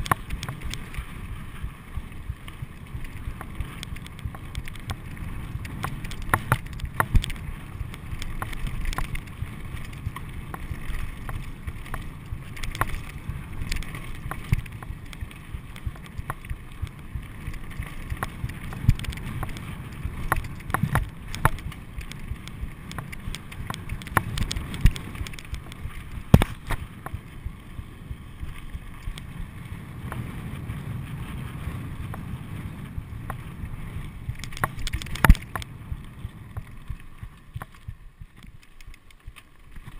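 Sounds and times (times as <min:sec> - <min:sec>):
bike rattling over bumps: 0:00.0 - 0:39.9
bike tyres rumbling on gravel: 0:00.0 - 0:39.9
wind on microphone: 0:00.0 - 0:39.9.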